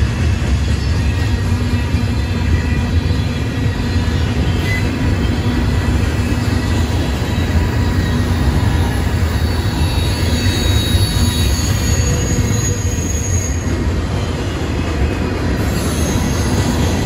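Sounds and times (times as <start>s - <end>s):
freight train rumbling past: 0.0s - 17.0s
high wheel squeal: 0.7s - 17.0s.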